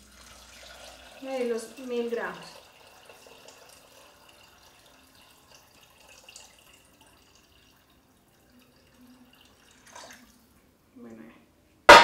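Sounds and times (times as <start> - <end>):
water dripping: 0.0 - 10.5
water trickling into a bowl: 0.0 - 10.6.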